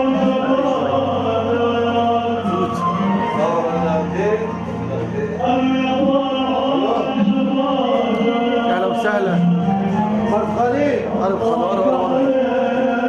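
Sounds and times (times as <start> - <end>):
person singing: 0.0 - 13.0
wedding music: 0.0 - 13.0.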